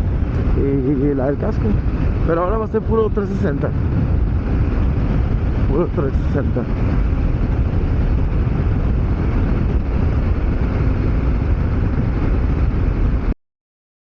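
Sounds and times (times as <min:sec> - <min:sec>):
vehicle road noise rumble: 0:00.0 - 0:13.4.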